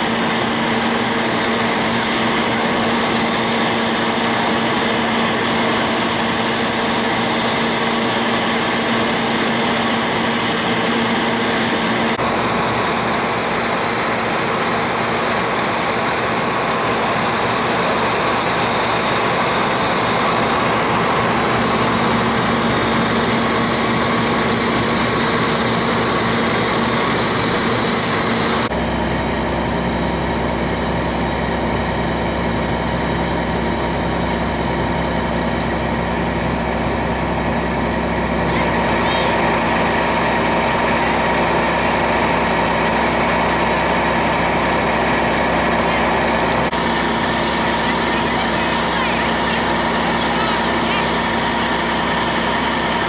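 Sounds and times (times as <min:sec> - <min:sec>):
large engine idling: 0:00.0 - 0:53.0.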